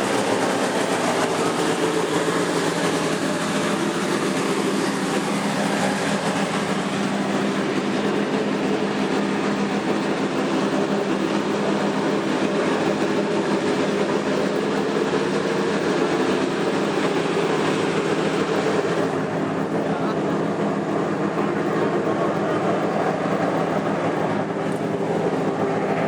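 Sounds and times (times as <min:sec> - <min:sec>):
loud mechanical drone: 0:00.0 - 0:26.0.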